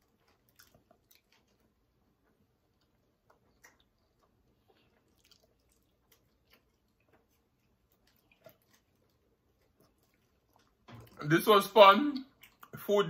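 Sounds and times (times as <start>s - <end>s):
faint chewing clicks: 0.0s - 11.4s, 12.1s - 12.8s.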